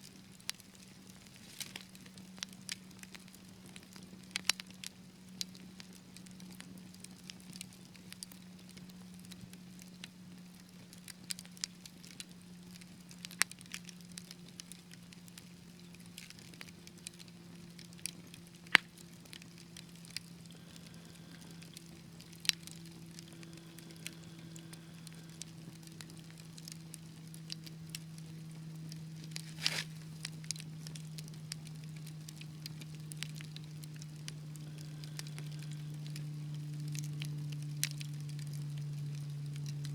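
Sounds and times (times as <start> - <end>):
low steady hum: 0.0 - 39.9
wood fire crackling: 0.0 - 39.9.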